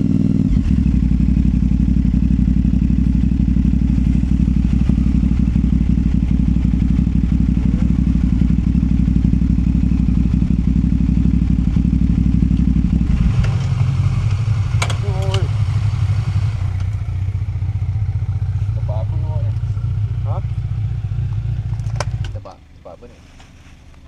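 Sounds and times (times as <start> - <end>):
motorcycle engine running: 0.0 - 23.1.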